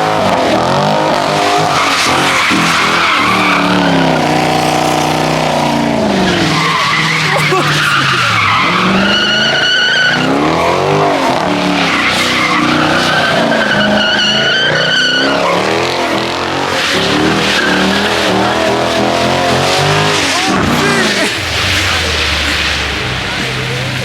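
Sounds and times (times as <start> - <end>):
car engine revving hard: 0.0 - 24.0
tyres squealing on wet pavement: 0.0 - 24.0.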